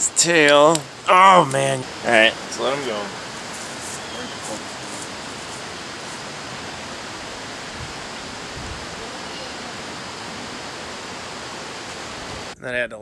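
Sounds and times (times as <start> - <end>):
water rushing from dam: 0.0 - 12.6.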